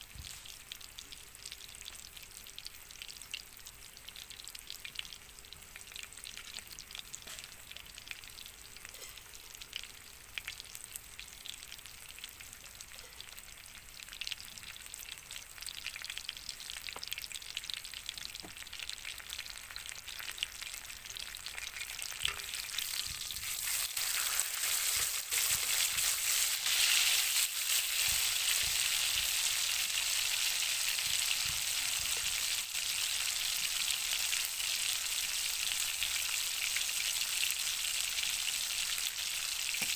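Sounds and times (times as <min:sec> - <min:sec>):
steak sizzling: 0:06.3 - 0:39.9.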